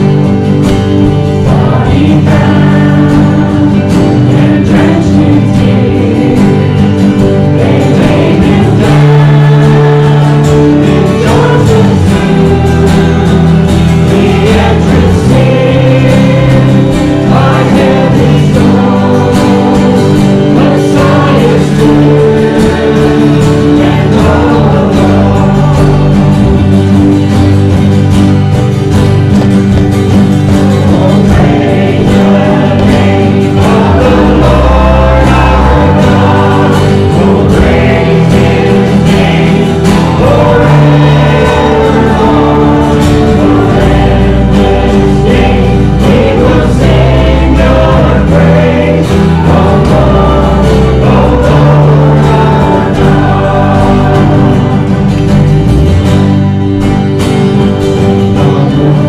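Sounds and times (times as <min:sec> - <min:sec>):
congregation singing: 0:00.0 - 0:59.0
guitar accompaniment: 0:00.0 - 0:59.0.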